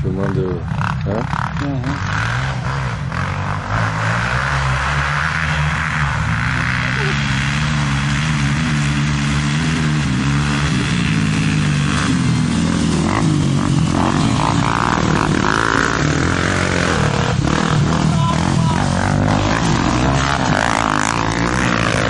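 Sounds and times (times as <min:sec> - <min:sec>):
motorcycle engine at speed: 0:00.0 - 0:22.0.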